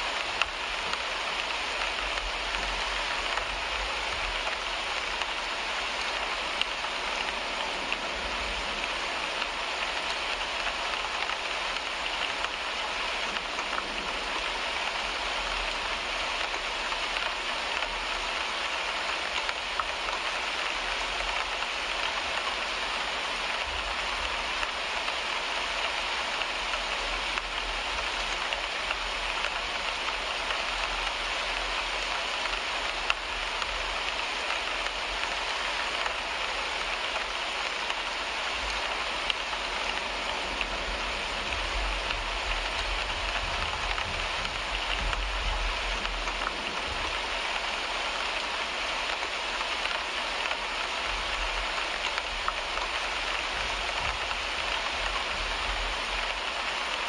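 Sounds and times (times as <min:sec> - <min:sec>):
rain pattering on a windshield: 0:00.0 - 0:57.0.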